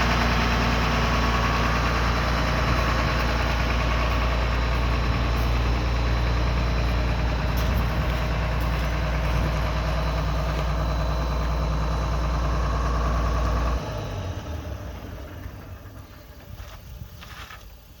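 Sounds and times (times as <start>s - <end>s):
excavator diesel engine idling: 0.0s - 18.0s.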